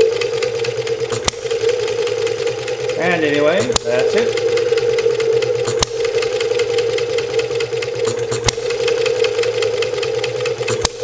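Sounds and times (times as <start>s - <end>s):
small engine clicking and humming: 0.0s - 11.0s.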